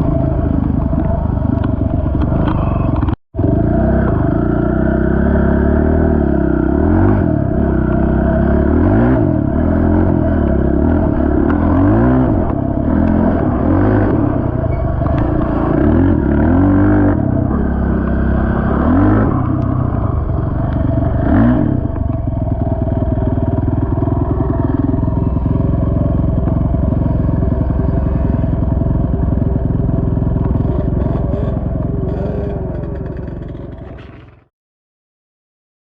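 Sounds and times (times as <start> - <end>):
atv engine revving: 0.0 - 34.5.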